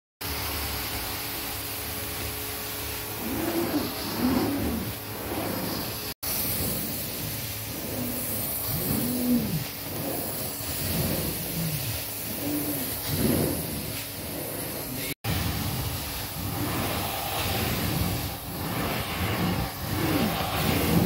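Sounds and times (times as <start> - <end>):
carpet extraction vacuum hissing: 0.2 - 21.0.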